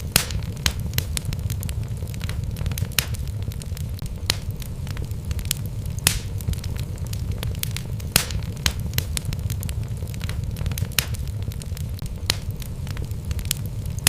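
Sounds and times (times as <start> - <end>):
burning logs crackling and popping: 0.0 - 14.0
low rumble of fire: 0.0 - 14.0.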